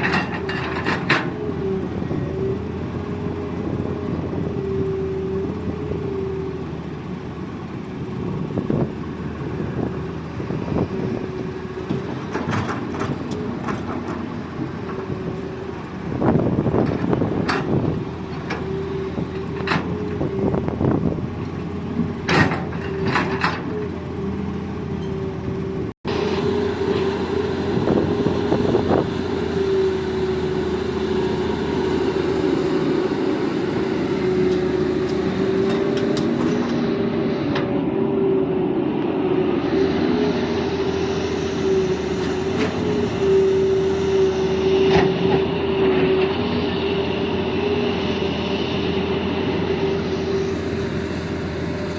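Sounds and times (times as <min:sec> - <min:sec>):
excavator engine droning: 0:00.0 - 0:51.9.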